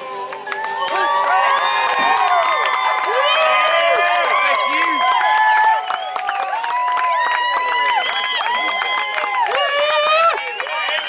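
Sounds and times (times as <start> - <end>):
audience cheering and whooping: 0.5 - 11.0.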